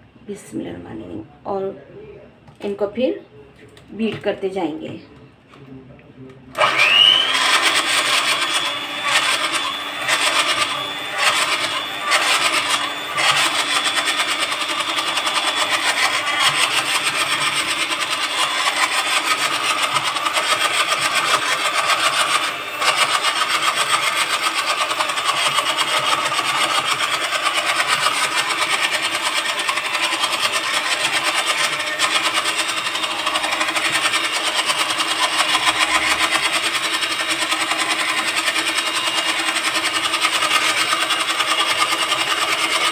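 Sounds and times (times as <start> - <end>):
electric hand mixer whirring: 6.5 - 42.9.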